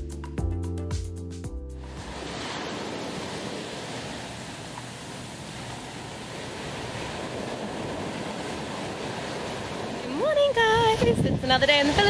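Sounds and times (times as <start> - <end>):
waves washing onto beach: 1.8 - 12.0.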